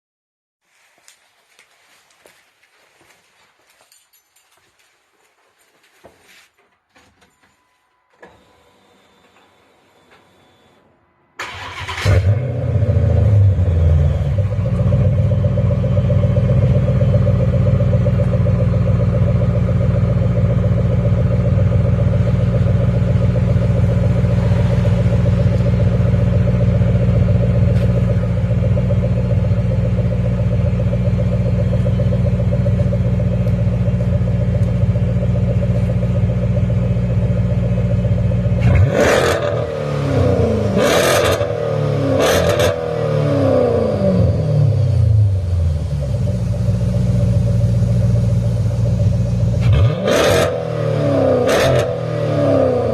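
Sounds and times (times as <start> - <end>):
car engine starting and idling: 8.0 - 52.9.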